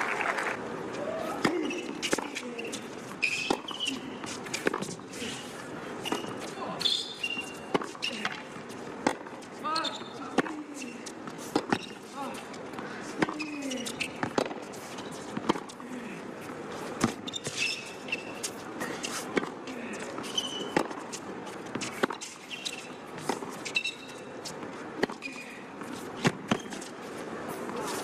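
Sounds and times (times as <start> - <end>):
shoes squeaking on court: 1.3 - 15.8, 16.4 - 28.0.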